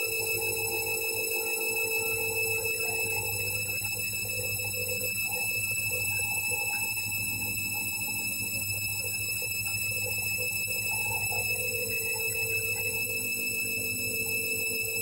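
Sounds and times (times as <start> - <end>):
washing machine humming and whining: 0.0 - 15.0.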